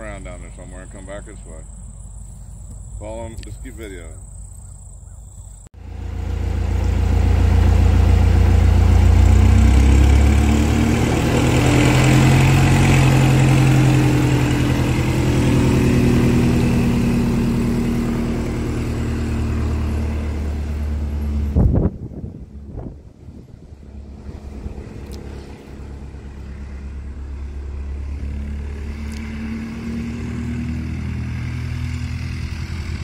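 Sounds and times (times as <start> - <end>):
vehicle engine running: 5.8 - 33.0.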